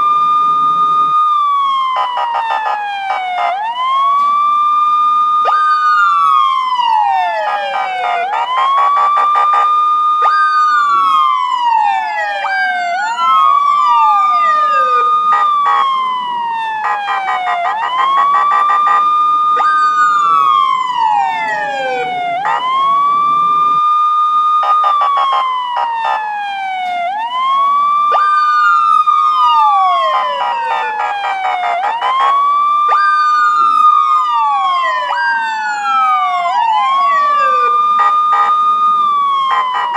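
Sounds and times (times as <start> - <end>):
police siren wailing: 0.0 - 39.9
second siren sweeping: 0.0 - 39.9.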